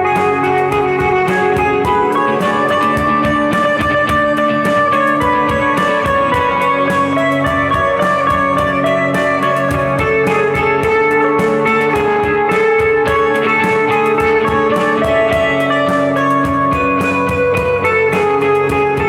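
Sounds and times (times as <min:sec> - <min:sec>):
electric guitar sliding notes: 0:00.0 - 0:19.0
steady drum beat: 0:00.0 - 0:19.0.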